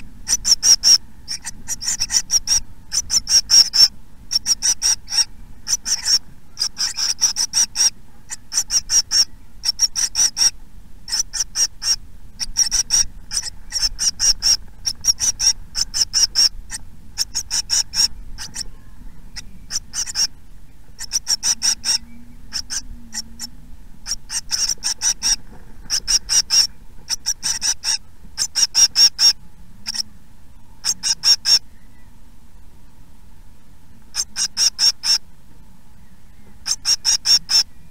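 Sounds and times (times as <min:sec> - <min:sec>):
nestlings begging calls: 0:00.0 - 0:33.0, 0:33.9 - 0:35.3, 0:35.9 - 0:37.9.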